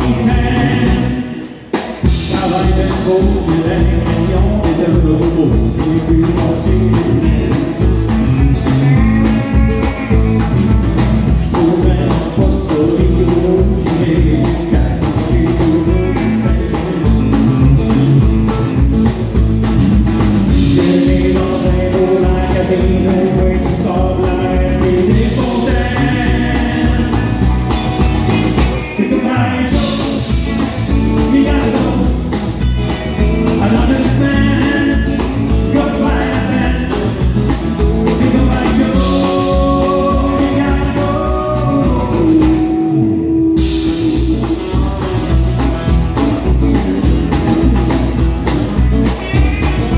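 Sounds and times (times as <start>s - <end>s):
man singing: 0.0s - 18.8s, 20.4s - 45.4s
steady beat: 0.0s - 29.0s, 29.7s - 49.9s
electric guitars: 0.0s - 49.9s
strummed acoustic guitar: 1.9s - 49.9s.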